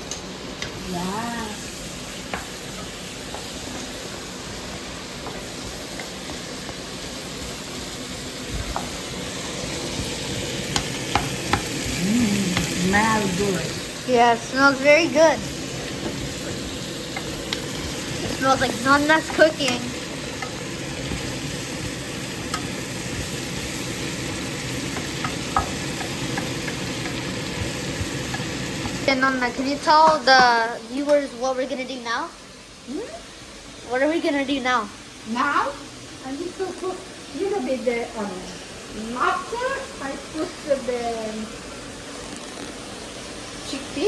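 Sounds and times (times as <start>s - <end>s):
onion sizzling in a pan: 0.0s - 44.0s.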